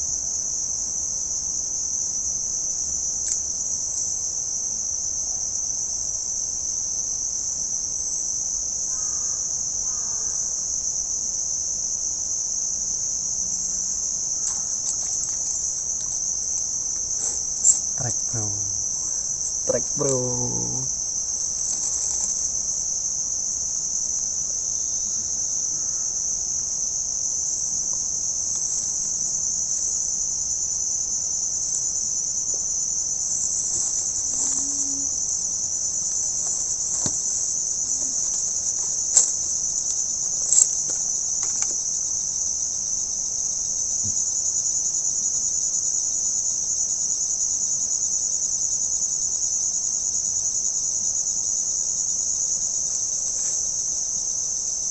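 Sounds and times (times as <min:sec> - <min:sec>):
insects chorus: 0:00.0 - 0:54.9.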